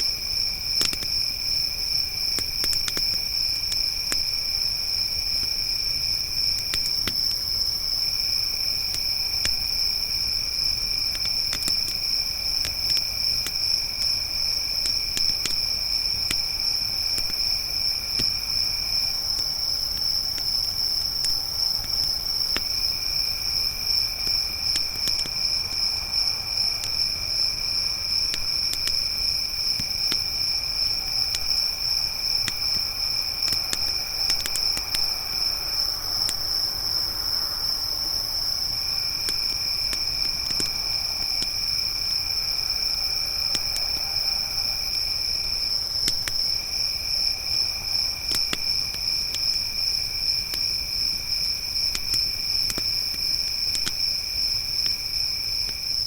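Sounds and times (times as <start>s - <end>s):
crickets trilling: 0.0s - 56.0s
campfire popping and crackling: 0.1s - 56.0s.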